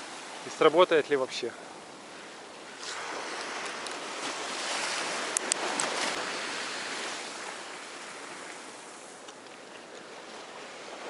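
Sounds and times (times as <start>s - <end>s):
sea surf washing onto shore: 0.0s - 11.0s.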